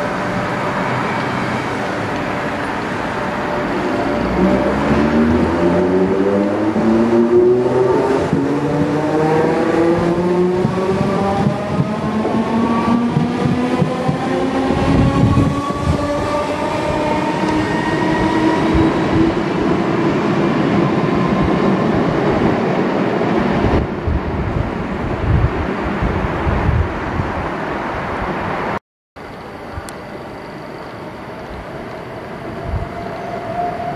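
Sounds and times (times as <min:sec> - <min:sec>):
train wheels rumbling on rails: 0:00.0 - 0:28.7.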